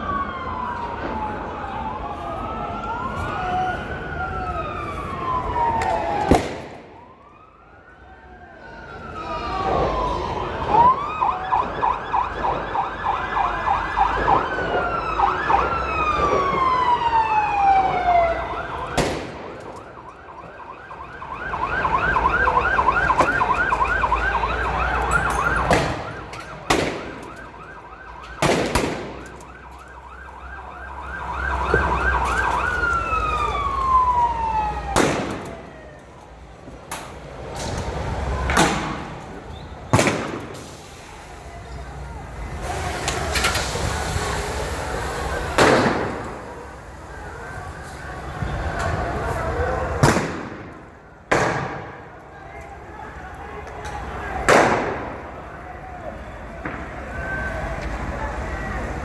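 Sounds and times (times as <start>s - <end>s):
emergency vehicle siren: 0.0s - 59.0s
fireworks bangs: 0.1s - 7.3s, 13.8s - 30.2s, 31.1s - 36.0s, 37.3s - 52.5s, 53.1s - 59.0s.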